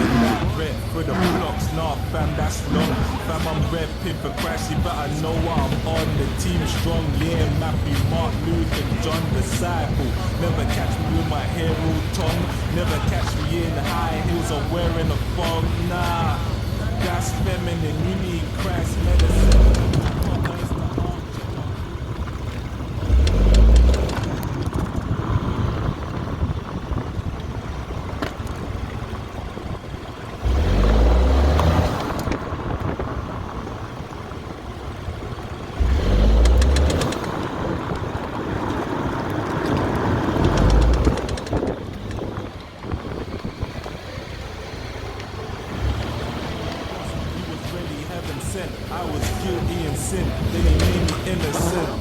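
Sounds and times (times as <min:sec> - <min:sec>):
car engine accelerating: 0:00.0 - 0:52.0
rapid clicks from drivetrain: 0:00.0 - 0:52.0.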